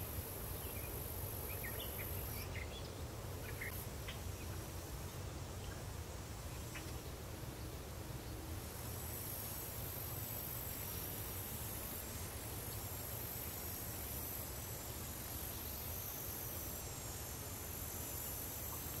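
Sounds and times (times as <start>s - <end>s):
high-pitched insect hum: 0.0s - 19.0s.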